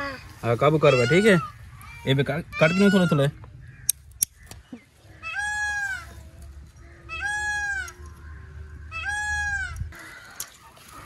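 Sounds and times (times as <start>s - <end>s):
peacock calling: 0.0s - 11.0s.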